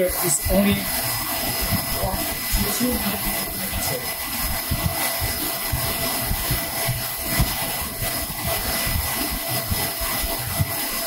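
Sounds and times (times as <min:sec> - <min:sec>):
printer fans whirring: 0:00.0 - 0:11.0.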